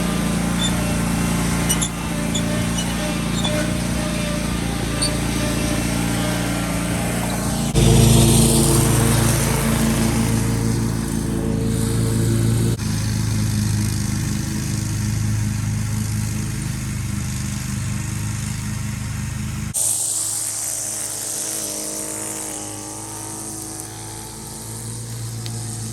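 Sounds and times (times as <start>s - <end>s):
lawn mower engine running: 0.0s - 25.9s.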